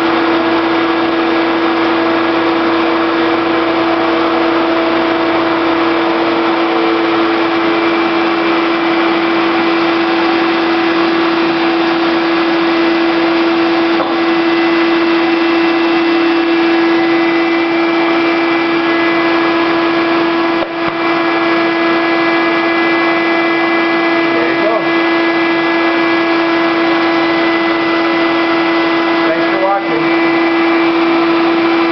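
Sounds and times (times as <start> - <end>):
radial arm saw running: 0.0 - 31.9
shop vacuum rushing: 0.0 - 31.9.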